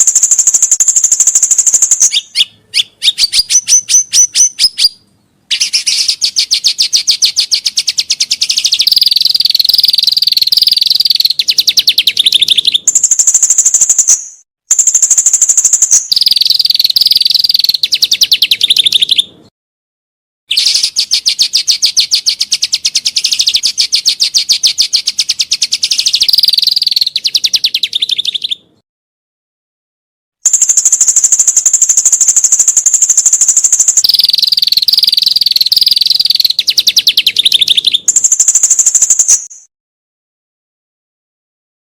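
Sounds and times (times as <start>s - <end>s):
songbird trilling: 0.0s - 19.3s, 20.5s - 28.6s, 30.5s - 39.7s.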